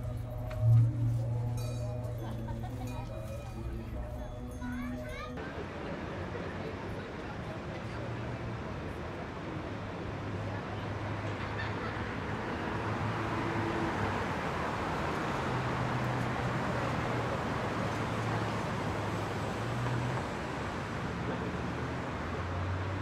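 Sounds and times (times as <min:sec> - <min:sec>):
tyres rolling on pavement: 0:00.0 - 0:23.0.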